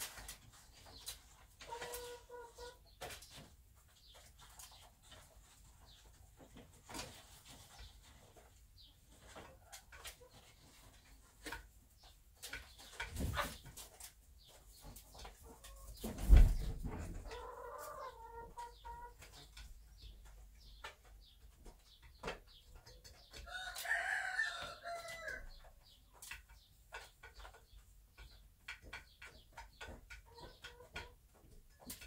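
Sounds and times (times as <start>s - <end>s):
chickens calling: 0.0s - 32.0s.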